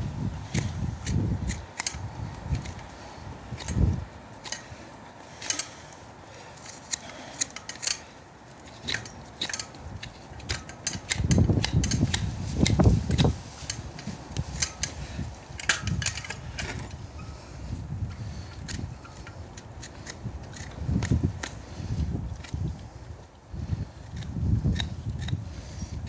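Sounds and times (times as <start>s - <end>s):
tools scraping on a hoof: 0.5s - 26.0s.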